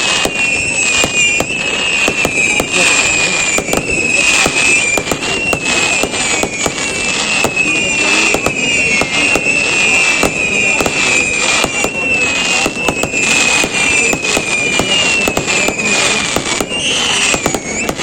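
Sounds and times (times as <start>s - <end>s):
fireworks bangs and crackling: 0.0s - 18.0s
high wavering firework whistle: 0.0s - 18.0s.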